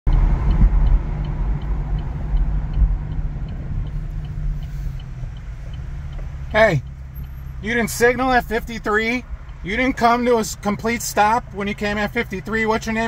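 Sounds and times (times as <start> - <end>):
car cabin road and engine rumble: 0.1 - 13.0
faint regular ticking: 0.1 - 13.0.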